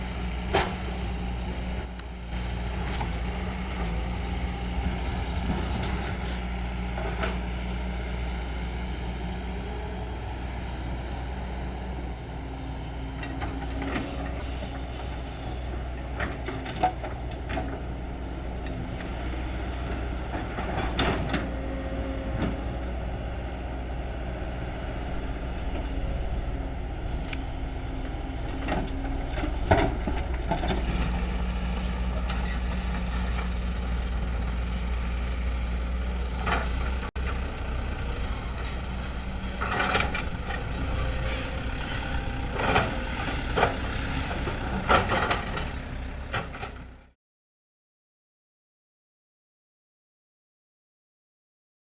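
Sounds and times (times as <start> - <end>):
excavator diesel engine running: 0.0 - 47.2.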